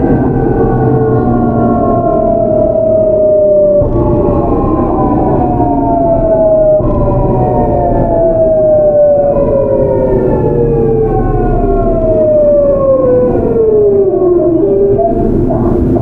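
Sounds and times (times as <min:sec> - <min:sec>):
train inverter whine: 0:00.0 - 0:16.0
wheels rumbling on rails: 0:00.0 - 0:16.0.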